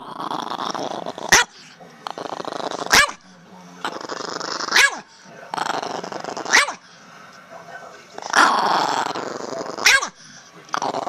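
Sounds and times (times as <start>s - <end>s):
small dog growling: 0.0s - 6.9s, 7.8s - 11.0s.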